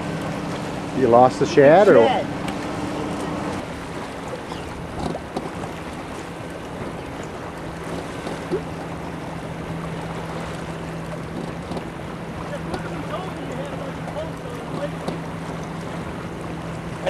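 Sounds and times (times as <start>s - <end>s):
low motor hum: 0.0s - 17.0s
water slapping boat hull: 0.0s - 17.0s.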